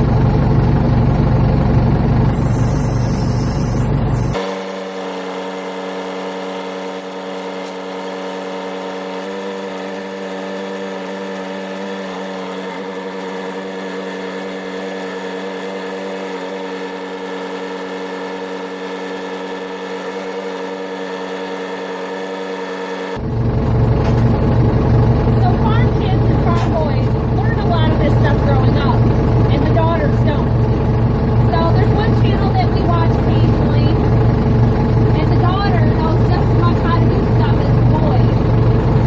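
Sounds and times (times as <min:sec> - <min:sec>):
backhoe engine running: 0:00.0 - 0:39.0.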